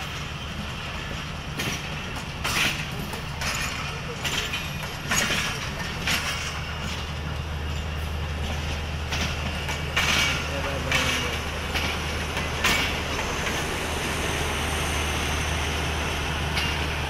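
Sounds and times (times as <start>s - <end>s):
diesel locomotive idling hum: 0.0s - 17.0s.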